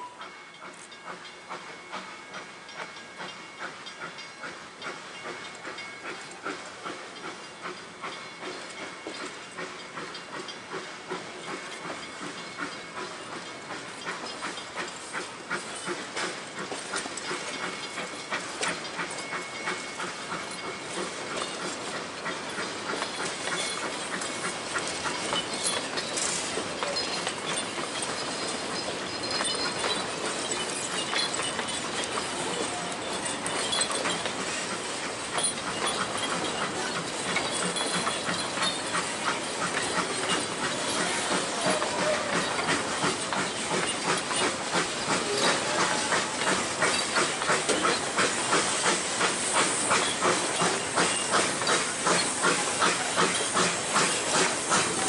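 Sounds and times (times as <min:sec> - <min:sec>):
steam hissing: 0:00.0 - 0:55.0
train wheels clicking over rail joints: 0:00.0 - 0:55.0.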